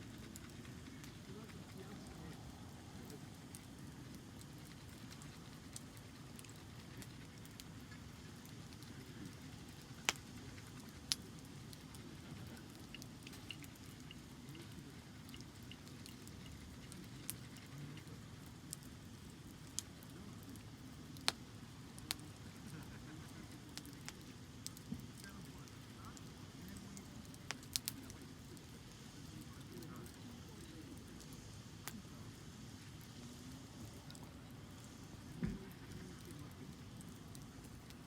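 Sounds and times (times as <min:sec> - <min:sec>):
sharp pops from fire: 0:00.0 - 0:38.0
wood fire crackling: 0:00.0 - 0:38.0.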